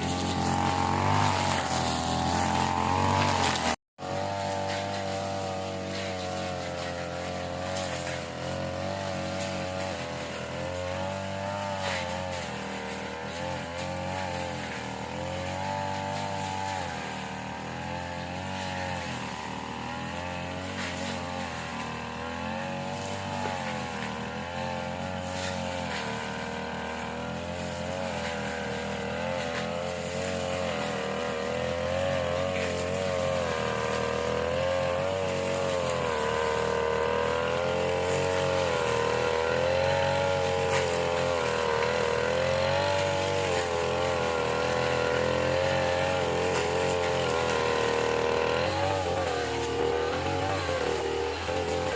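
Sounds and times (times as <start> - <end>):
grass cutter engine running: 0.0 - 51.9.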